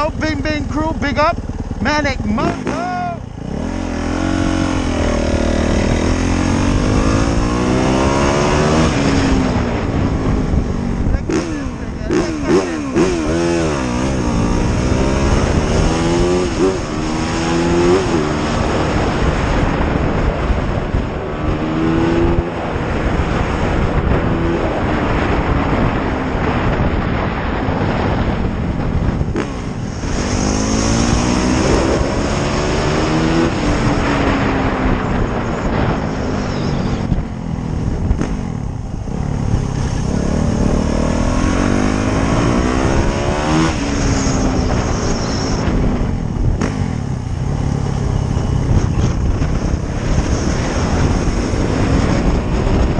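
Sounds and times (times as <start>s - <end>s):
motorcycle engine accelerating: 0.0s - 52.9s
wind noise on microphone: 0.0s - 52.9s.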